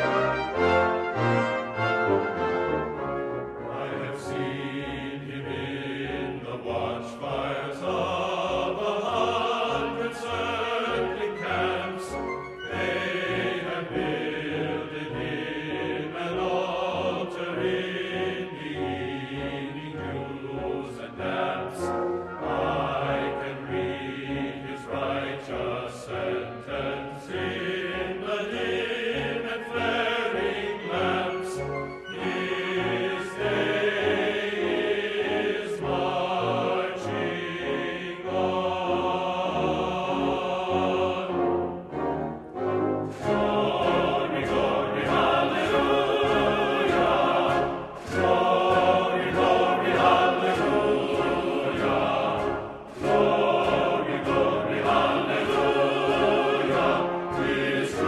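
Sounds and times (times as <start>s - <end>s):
choir with orchestra: 0.0s - 58.0s.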